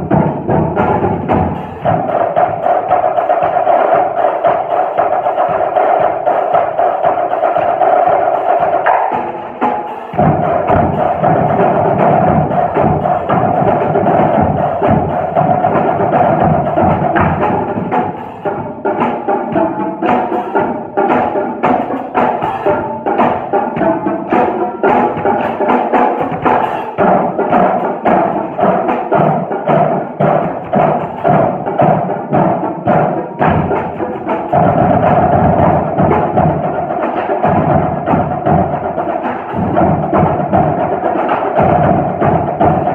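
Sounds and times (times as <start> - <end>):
drum kit beat: 0.0 - 42.9.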